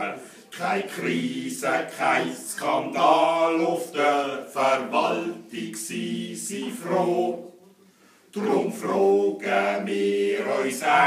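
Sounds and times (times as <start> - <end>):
men singing: 0.0 - 7.5, 8.4 - 11.0.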